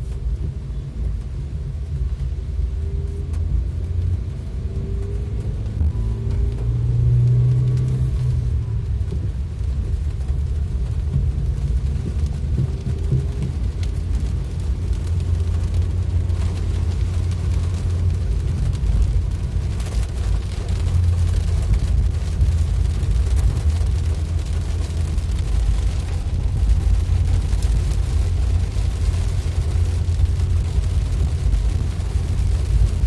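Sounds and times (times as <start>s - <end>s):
heavy rain: 0.0s - 33.0s
road and wind noise: 0.0s - 33.0s
vehicle rumble: 0.0s - 33.0s.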